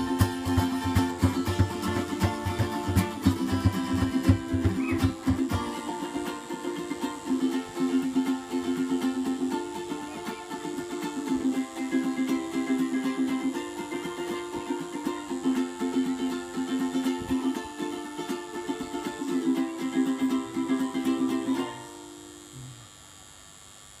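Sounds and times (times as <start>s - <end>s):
ukulele strumming: 0.0s - 22.2s
acoustic guitar strumming: 0.0s - 22.3s
held melody notes: 0.0s - 22.5s.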